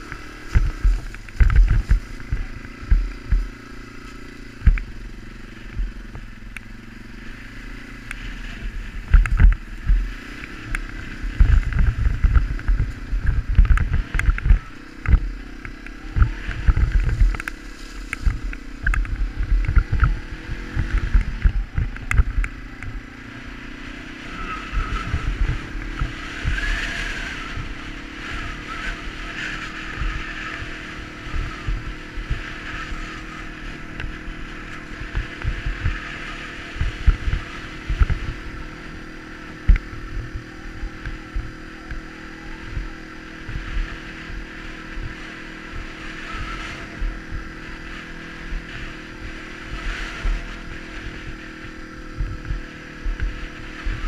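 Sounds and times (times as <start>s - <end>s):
wind buffeting microphone: 0.0s - 3.6s, 8.3s - 54.0s
motorcycle engine running: 0.0s - 54.0s.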